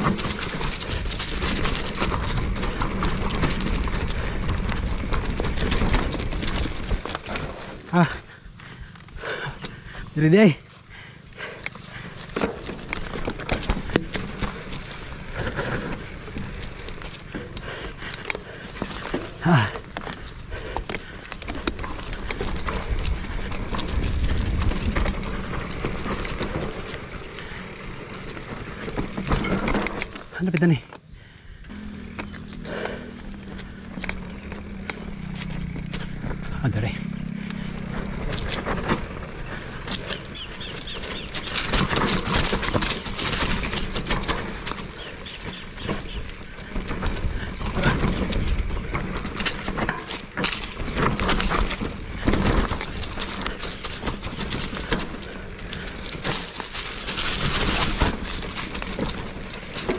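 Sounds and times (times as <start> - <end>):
bike clicks and rattles: 0.0 - 59.9
bike tyres rumbling on dirt: 0.0 - 59.9.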